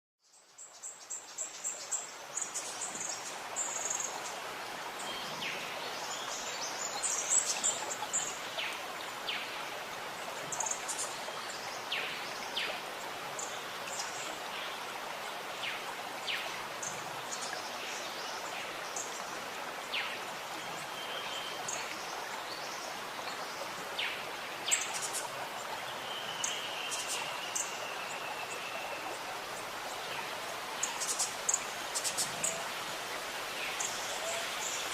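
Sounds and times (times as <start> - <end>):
running gurgling water: 0.8 - 34.9.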